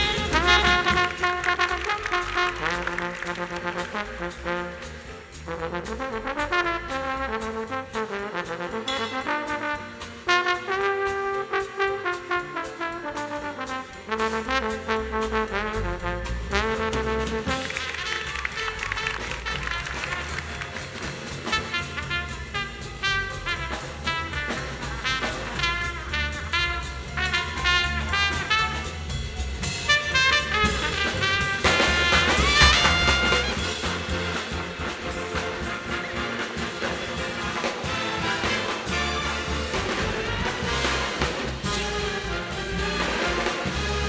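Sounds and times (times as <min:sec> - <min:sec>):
big band jazz brass: 0:00.0 - 0:44.0
drum kit: 0:00.0 - 0:44.0.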